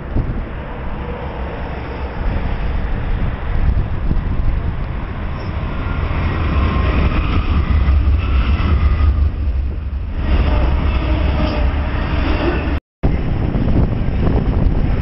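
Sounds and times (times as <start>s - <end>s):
diesel locomotives rumbling: 0.0s - 15.0s
freight cars rolling on rails: 0.0s - 15.0s.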